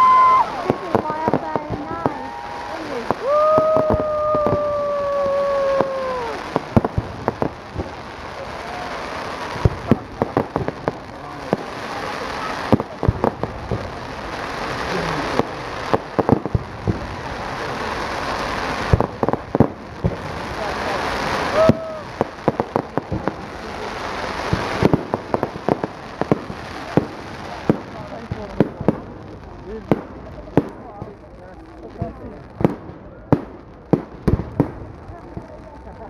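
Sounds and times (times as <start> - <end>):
crowd chatter: 0.0 - 36.0
fireworks bangs and crackles: 0.0 - 36.0.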